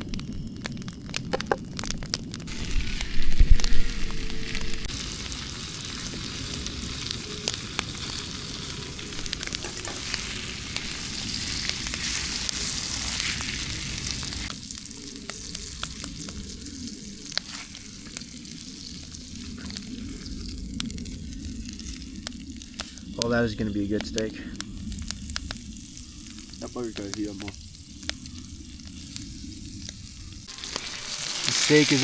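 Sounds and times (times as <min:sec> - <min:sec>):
sharp frying pops: 0:00.0 - 0:32.0
steak sizzling in a pan: 0:02.4 - 0:32.0.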